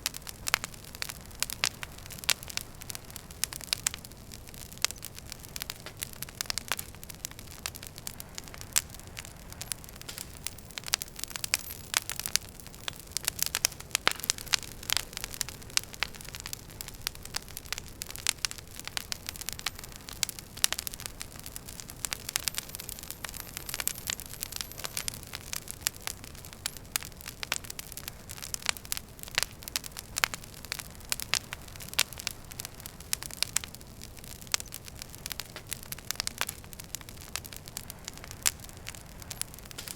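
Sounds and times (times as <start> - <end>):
wood fire crackling: 0.0 - 39.9
sharp pops and snaps: 4.8 - 39.9.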